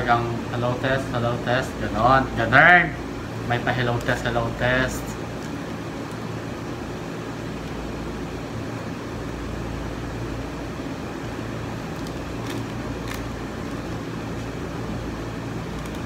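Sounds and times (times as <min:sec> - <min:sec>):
air conditioning hum: 0:00.0 - 0:16.0.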